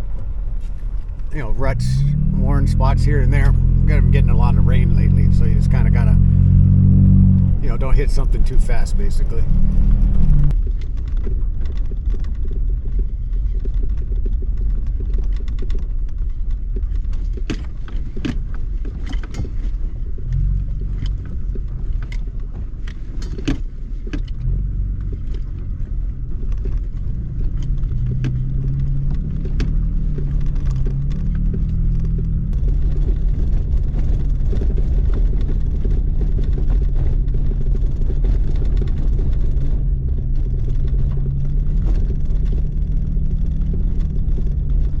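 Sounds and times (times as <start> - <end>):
pickup engine and tyre rumble: 0.0 - 45.0.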